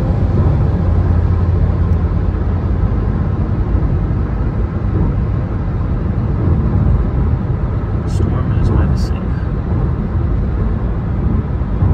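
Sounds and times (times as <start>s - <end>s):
road and tyre noise in car: 0.0s - 11.9s.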